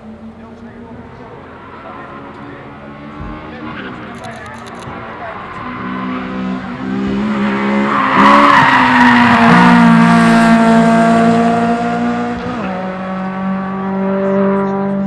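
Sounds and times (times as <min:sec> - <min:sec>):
race car passing at speed: 0:00.8 - 0:04.2, 0:04.8 - 0:15.0.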